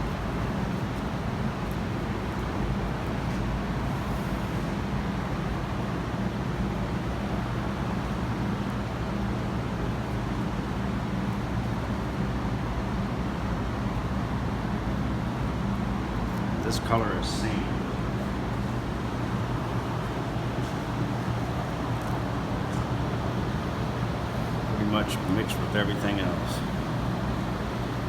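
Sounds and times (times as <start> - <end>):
low mechanical hum and rumble: 0.0 - 28.0.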